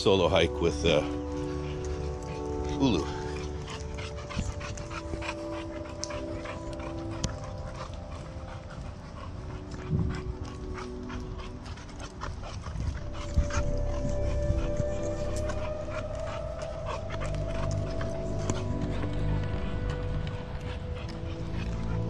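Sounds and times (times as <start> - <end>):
dog panting: 0.0 - 22.0
soft background music: 0.0 - 22.0
footsteps on dirt trail: 1.0 - 22.0.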